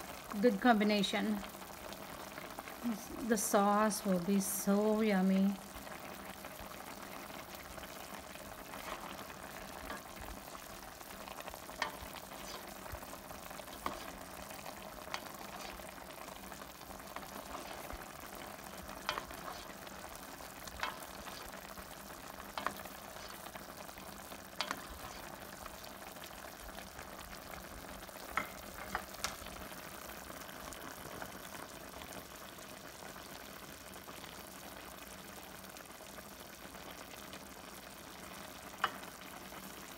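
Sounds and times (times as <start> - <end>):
sauce bubbling and hissing: 0.0 - 39.9.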